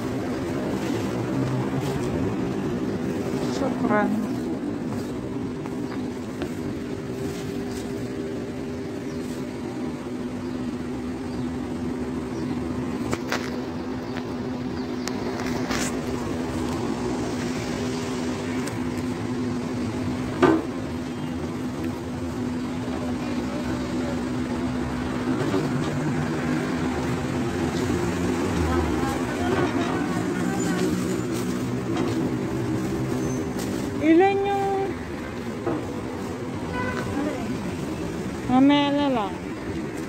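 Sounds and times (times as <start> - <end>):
steady mechanical hum: 0.0 - 40.0.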